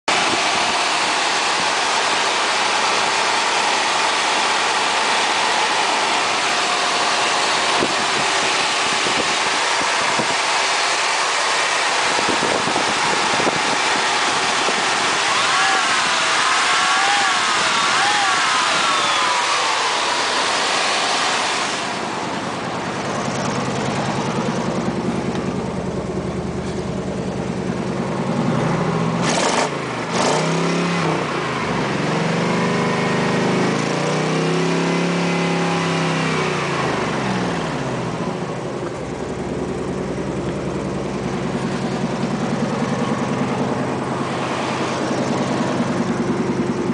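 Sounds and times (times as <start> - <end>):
engine idling and revving: 0.0 - 46.9.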